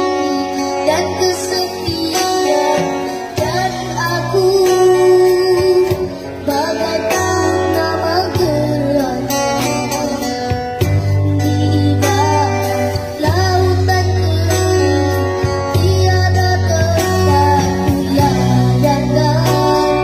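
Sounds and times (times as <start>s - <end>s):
acoustic guitar: 0.0s - 20.0s
boy singing a slow ballad: 0.0s - 20.0s.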